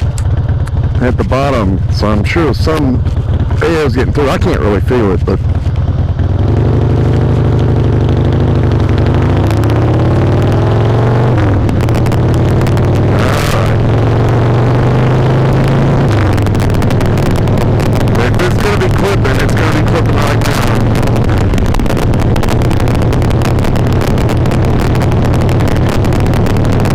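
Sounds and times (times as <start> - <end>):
motorcycle engine: 0.0 - 26.9.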